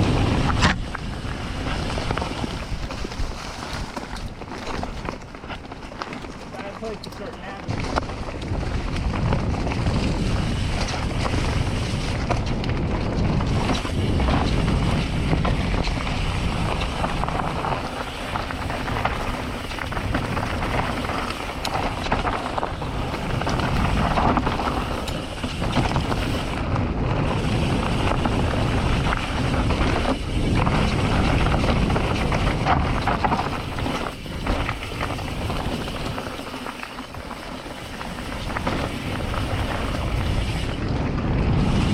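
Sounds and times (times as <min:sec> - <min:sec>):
wind rushing over microphone: 0:00.0 - 0:05.7, 0:06.3 - 0:41.9
bike rattles and knocks: 0:00.0 - 0:41.9
bike tyre noise: 0:00.0 - 0:41.9.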